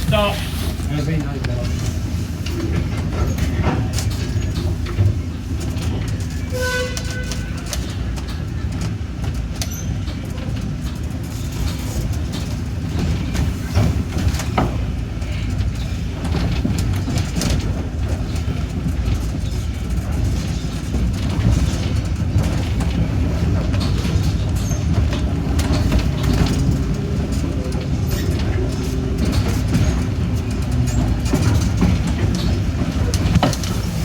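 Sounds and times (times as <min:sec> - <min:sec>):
train rumbling on track: 0:00.0 - 0:34.0.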